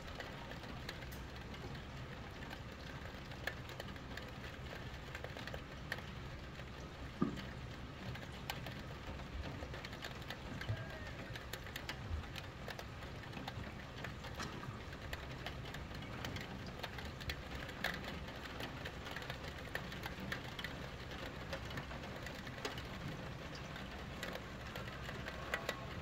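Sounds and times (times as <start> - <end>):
raindrops tapping roof window: 0.0 - 26.0
steady hiss of rain: 0.0 - 26.0.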